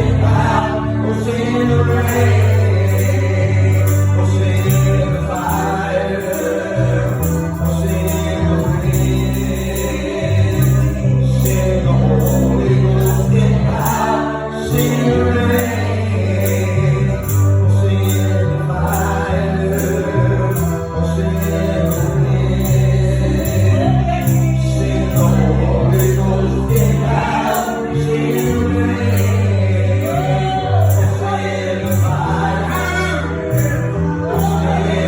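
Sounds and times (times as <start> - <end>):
band with strong bass line: 0.0 - 35.0
choir singing: 0.0 - 35.0
tambourine: 0.0 - 35.0.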